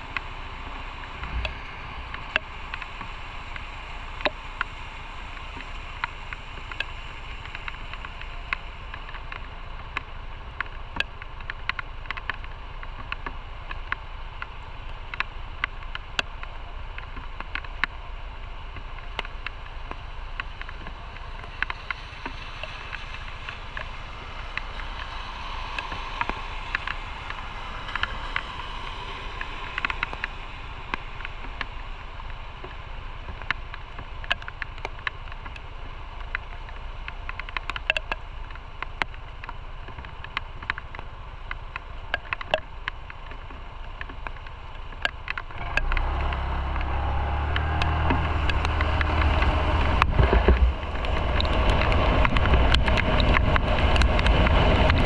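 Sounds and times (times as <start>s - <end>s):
motorcycle engine running: 0.0s - 55.0s
wind and road noise: 0.0s - 55.0s
sharp ticks: 1.0s - 55.0s.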